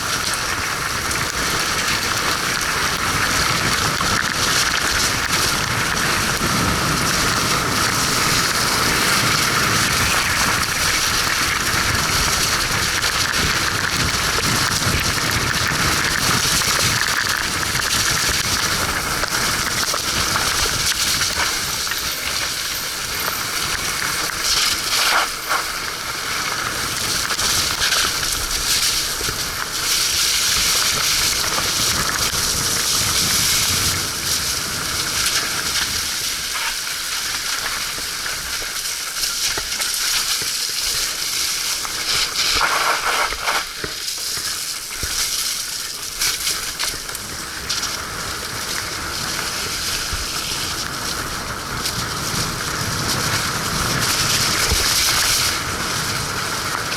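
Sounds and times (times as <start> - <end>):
bike tyres rolling through mud: 0.0 - 56.9.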